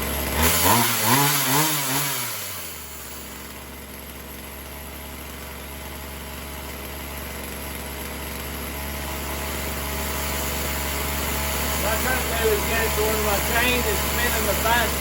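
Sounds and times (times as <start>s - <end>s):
chainsaw engine idling: 0.0s - 15.0s.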